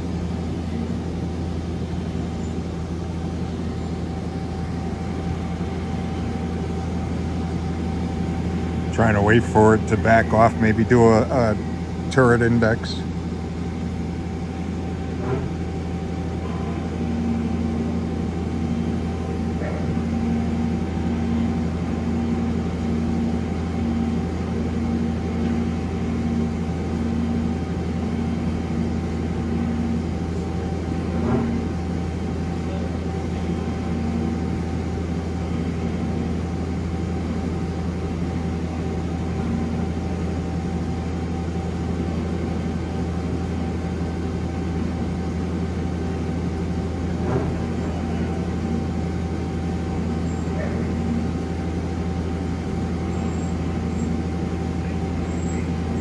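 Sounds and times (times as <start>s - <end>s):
lathe machine hum with whine: 0.0s - 56.0s.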